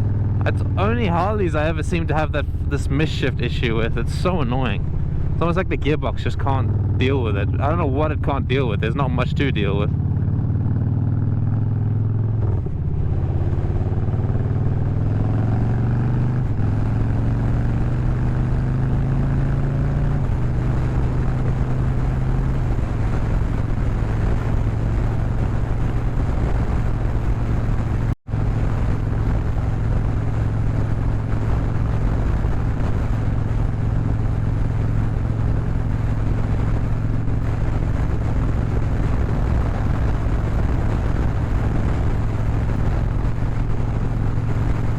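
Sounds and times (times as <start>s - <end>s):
motorcycle engine and exhaust: 0.0s - 44.9s
wind noise: 0.0s - 44.9s.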